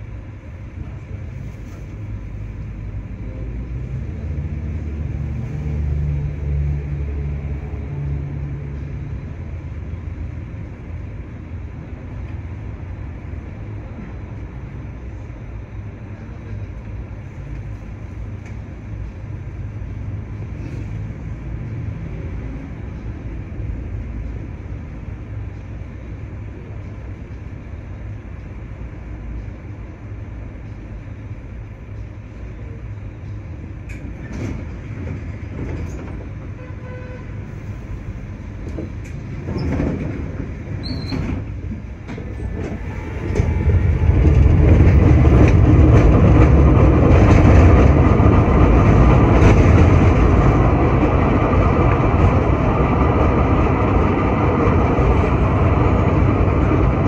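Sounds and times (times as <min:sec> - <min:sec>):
bus idling: 0:00.0 - 0:57.0
low rumble of stopped tram: 0:00.0 - 0:57.0.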